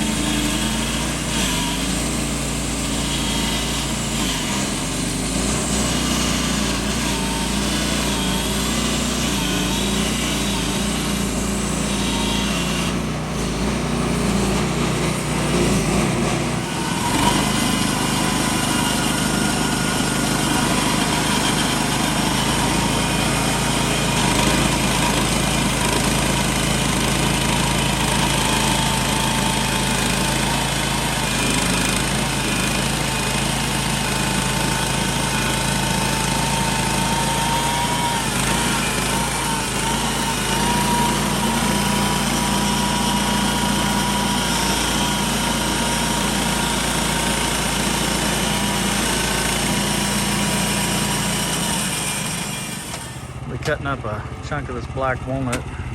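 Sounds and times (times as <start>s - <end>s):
band saw blade cutting log: 0.0s - 55.9s
gas engine under load: 0.0s - 55.9s.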